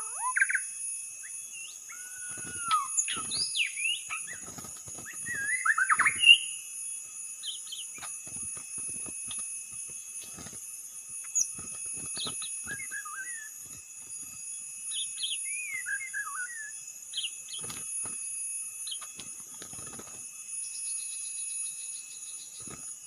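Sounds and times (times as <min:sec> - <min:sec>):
bird singing whistled notes: 0:00.0 - 0:18.2, 0:18.8 - 0:19.2
high-pitched background ringing: 0:00.0 - 0:23.0.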